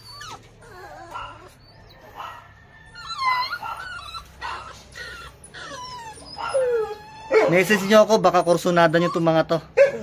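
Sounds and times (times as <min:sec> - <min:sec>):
puppies whining and whimpering: 0:00.0 - 0:10.0.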